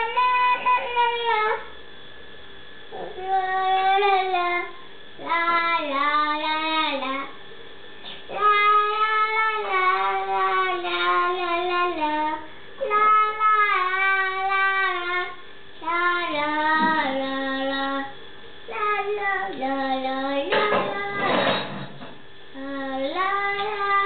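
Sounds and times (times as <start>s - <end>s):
toddler girl singing: 0.0s - 1.6s, 3.0s - 7.3s, 8.3s - 18.1s, 18.7s - 21.6s, 22.6s - 24.0s.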